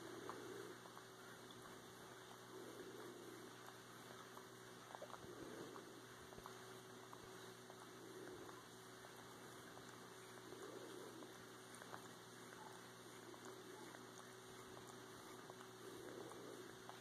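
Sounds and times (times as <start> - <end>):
steady low hum: 0.0 - 17.0
wet suckling clicks: 0.0 - 17.0.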